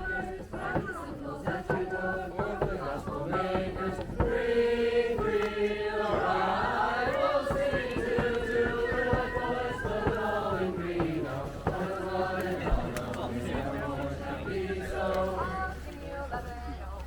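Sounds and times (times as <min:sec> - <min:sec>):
voices chanting a hymn: 0:00.0 - 0:17.0.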